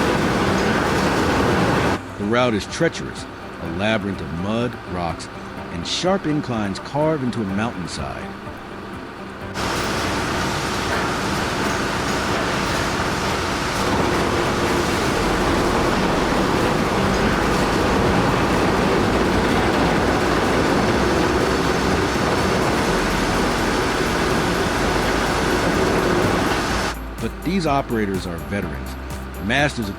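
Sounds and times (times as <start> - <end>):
heavy machinery running: 0.0 - 29.4.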